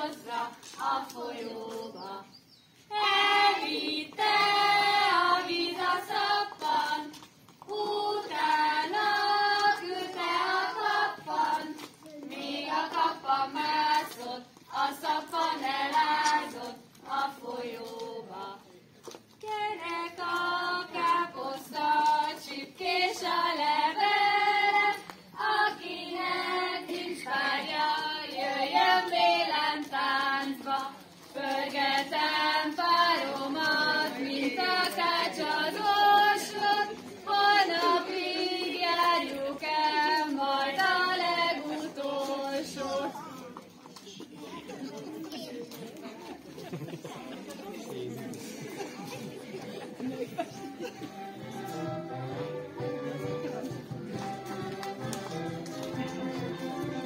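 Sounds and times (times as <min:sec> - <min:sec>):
group singing unaccompanied: 0:00.0 - 0:18.8, 0:19.4 - 0:43.2, 0:48.7 - 0:57.0.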